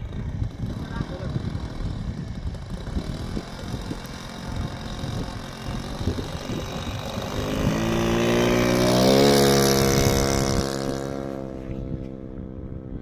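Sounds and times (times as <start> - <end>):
model aircraft engine revving: 0.0 - 13.0
wind rumble on microphone: 0.0 - 13.0.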